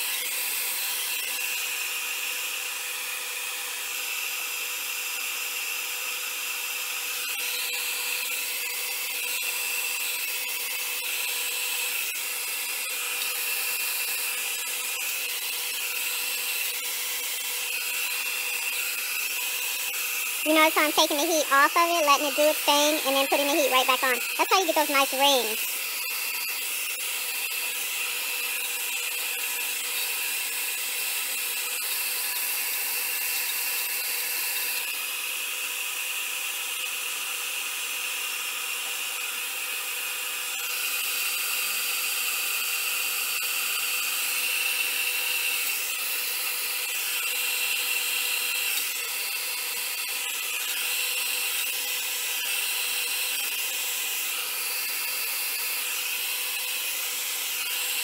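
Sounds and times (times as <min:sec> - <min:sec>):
hot-air blow dryer running: 0:00.0 - 0:58.0.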